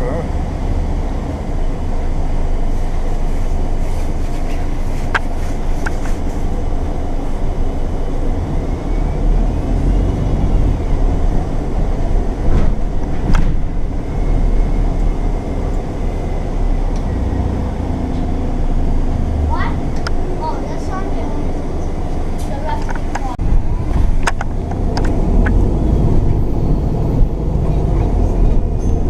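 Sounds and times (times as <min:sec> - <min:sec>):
bus engine rumble: 0:00.0 - 0:29.0.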